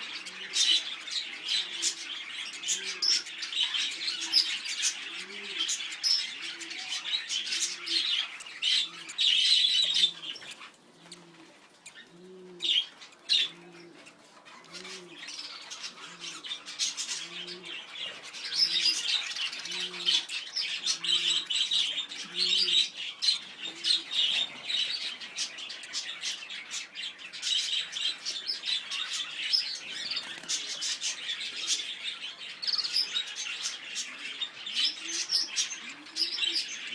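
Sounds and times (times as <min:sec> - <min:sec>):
lovebirds chattering and chirping: 0:00.0 - 0:36.9.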